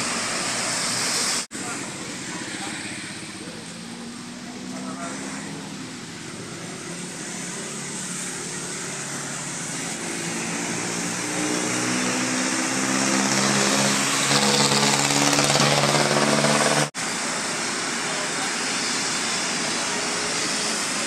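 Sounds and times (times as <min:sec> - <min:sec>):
tyre hiss on wet road: 0:00.0 - 0:14.3, 0:16.9 - 0:21.0.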